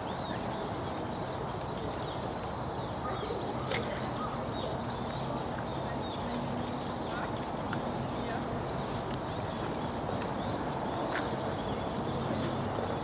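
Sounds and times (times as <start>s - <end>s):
low outdoor murmur: 0.0s - 13.0s
small birds chirping: 0.0s - 13.0s.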